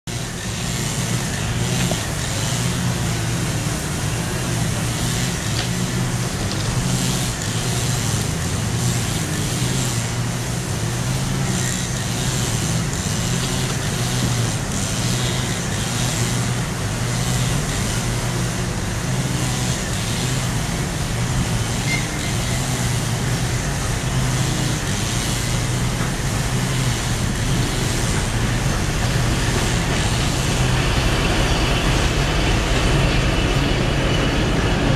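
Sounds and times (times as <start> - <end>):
road traffic rumble: 0.0 - 34.9
diesel locomotive engine: 0.1 - 34.9.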